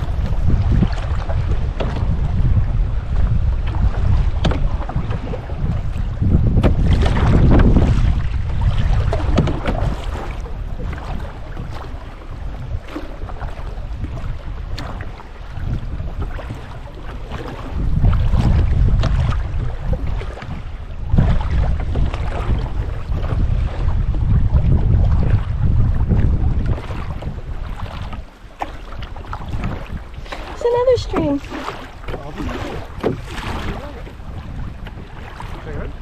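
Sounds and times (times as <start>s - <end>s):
water splashing around canoe: 0.0s - 36.0s
wind gusting against microphone: 0.0s - 36.0s.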